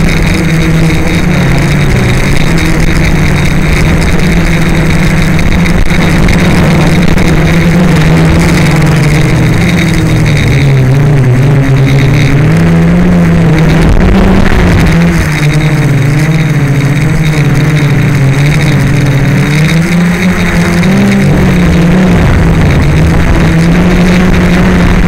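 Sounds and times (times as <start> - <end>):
drone propellers buzzing: 0.0 - 25.0.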